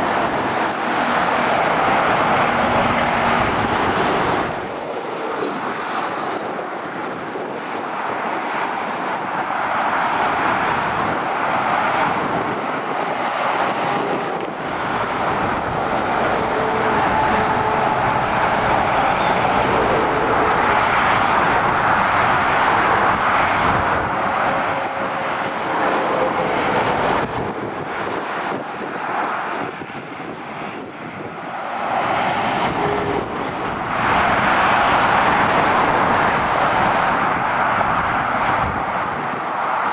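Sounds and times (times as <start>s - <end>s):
motorway traffic passing: 0.0s - 39.9s.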